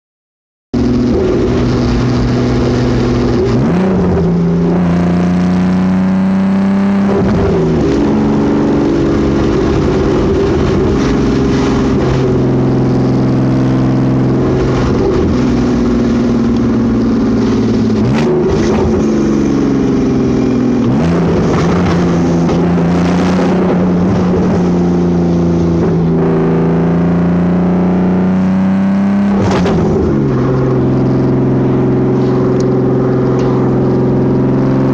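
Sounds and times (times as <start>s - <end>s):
vehicle engine running: 0.8s - 34.9s.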